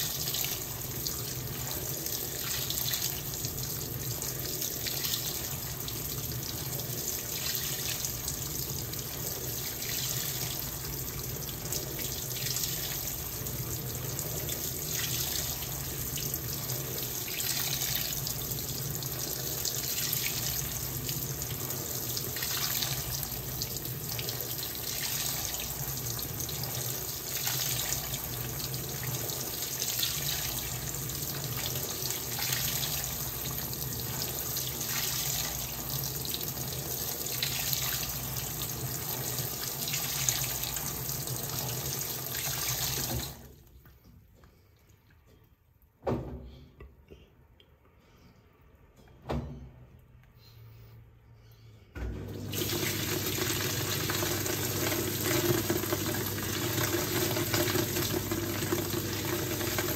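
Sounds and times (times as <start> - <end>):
washing machine filling with water: 0.0 - 43.6, 52.0 - 59.9.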